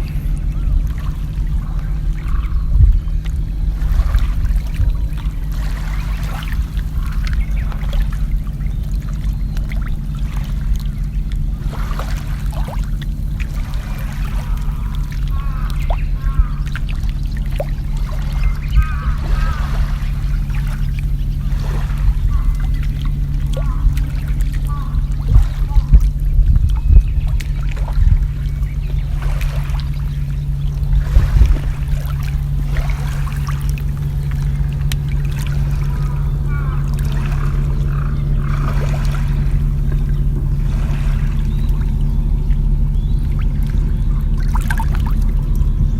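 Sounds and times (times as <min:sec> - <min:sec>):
low hum: 0:00.0 - 0:45.9
water trickling and dripping: 0:00.0 - 0:45.9.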